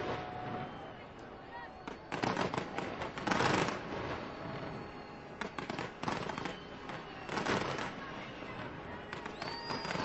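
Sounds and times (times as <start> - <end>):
fireworks cracking and banging: 0.0 - 10.0.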